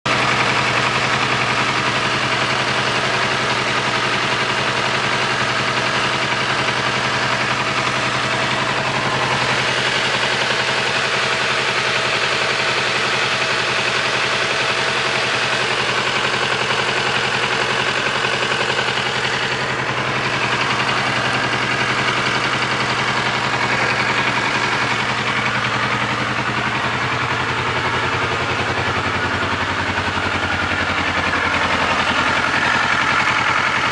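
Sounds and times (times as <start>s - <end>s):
vehicle engine idling: 0.0s - 33.9s.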